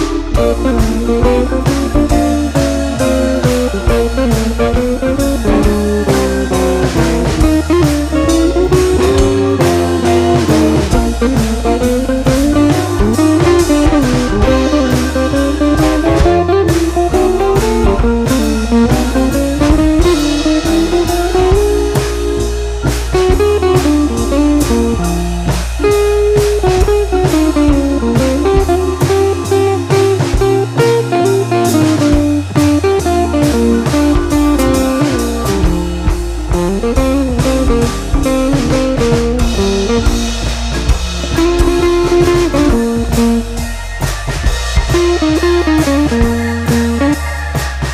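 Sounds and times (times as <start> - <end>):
bass line: 0.0 - 47.9
blues guitar: 0.0 - 47.9
drum kit beat: 0.0 - 47.9.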